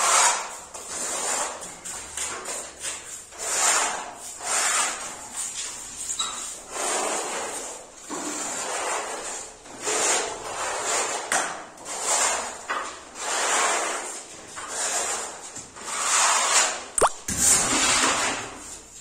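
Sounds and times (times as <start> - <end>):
putty knife scraping wall: 0.0 - 19.0.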